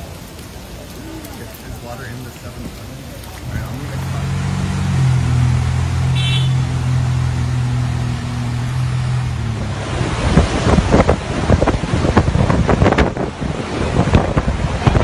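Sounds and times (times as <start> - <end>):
vehicle engine humming: 0.0 - 12.5
wind buffeting microphone: 0.1 - 15.0.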